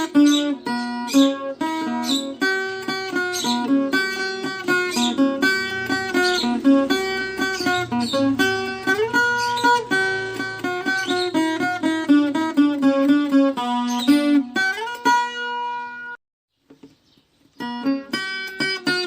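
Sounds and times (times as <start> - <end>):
plucked folk guitar melody: 0.0 - 19.0.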